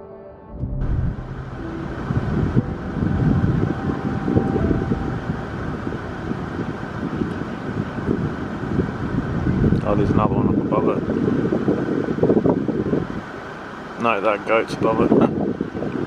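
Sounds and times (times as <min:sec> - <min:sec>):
wind buffeting the microphone: 0:00.6 - 0:16.0.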